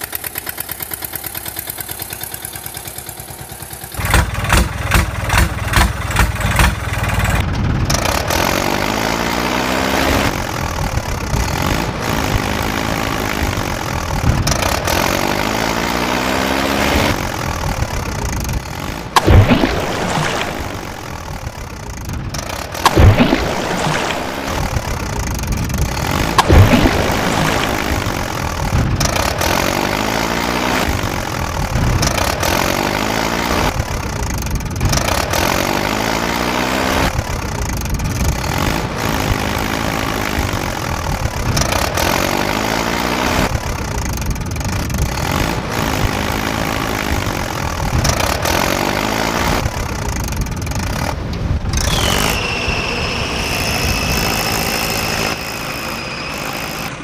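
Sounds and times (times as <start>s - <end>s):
diesel engine sound effect: 0.0s - 57.0s.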